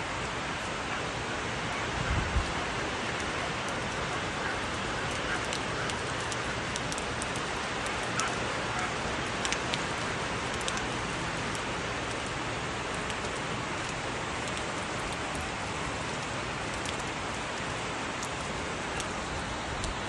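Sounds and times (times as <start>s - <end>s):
heavy rain falling: 0.0s - 20.0s
sharp ticks of raindrops: 0.0s - 20.0s.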